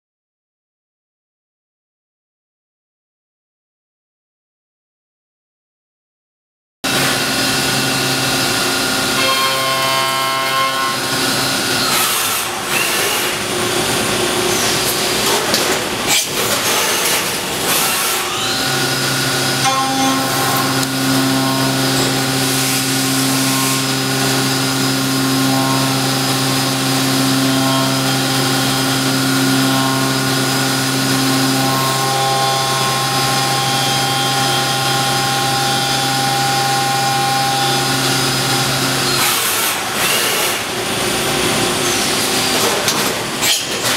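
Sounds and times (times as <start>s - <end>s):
cnc machine grinding cutting: 6.9s - 43.9s.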